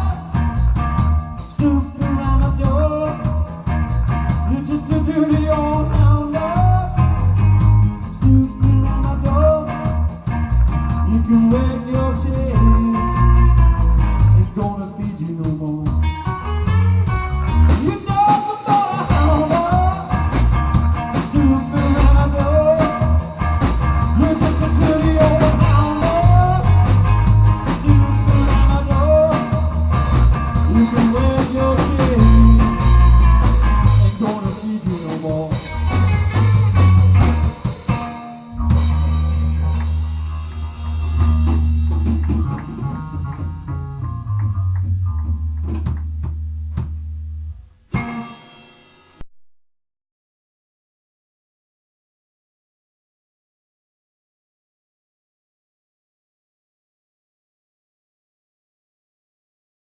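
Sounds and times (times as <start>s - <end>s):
electric bass: 0.0s - 48.2s
electric guitar lead lines: 0.0s - 49.2s
drum kit: 0.0s - 49.3s.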